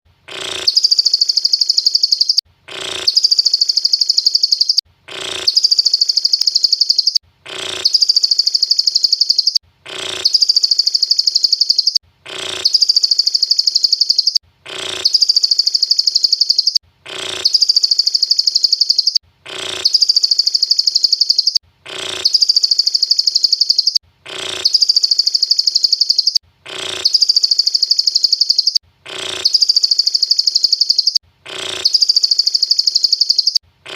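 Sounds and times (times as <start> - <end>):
bird high-pitched trill: 0.4 - 33.6.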